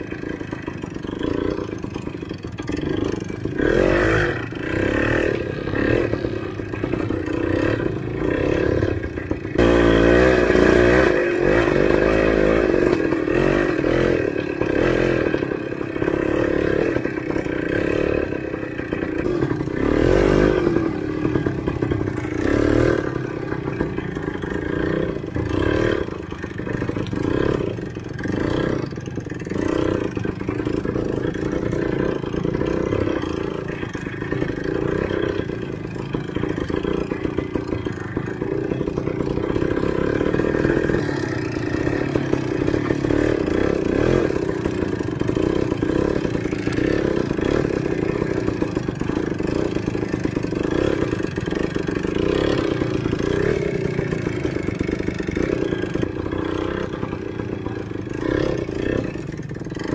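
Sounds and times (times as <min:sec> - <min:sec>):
motorcycle clattering and knocking: 0:00.0 - 0:59.9
motorcycle engine revving: 0:00.0 - 0:59.9.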